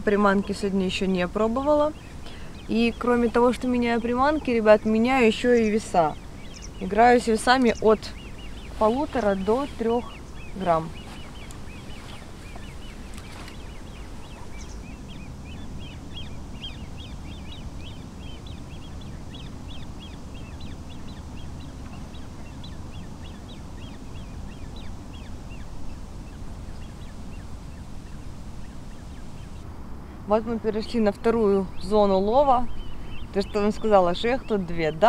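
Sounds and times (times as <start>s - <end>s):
birds chirping: 0.0s - 35.0s
low background rumble: 0.0s - 35.0s.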